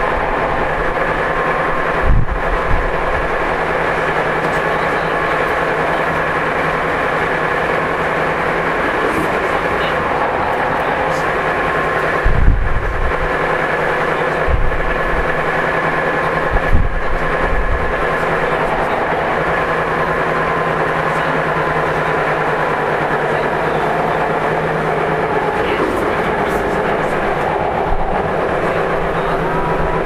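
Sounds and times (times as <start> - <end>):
high steady tones: 0.0 - 30.0
low hum: 0.0 - 30.0
rhythmic rail clatter: 0.0 - 30.0
train motor and wheel noise: 0.0 - 30.0.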